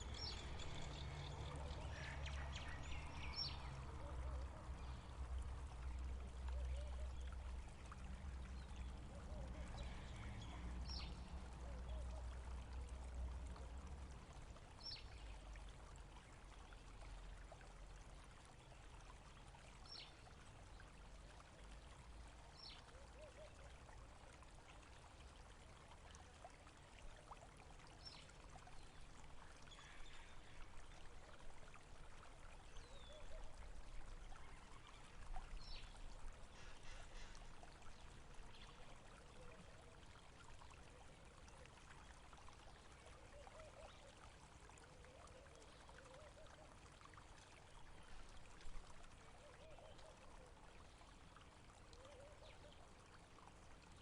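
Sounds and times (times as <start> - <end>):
water trickling and gurgling: 0.0 - 54.0.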